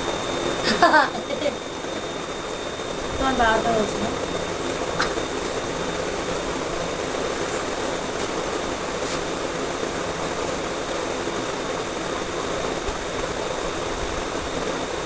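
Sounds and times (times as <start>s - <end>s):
high constant whine: 0.0s - 15.0s
steady rushing noise: 0.0s - 15.0s.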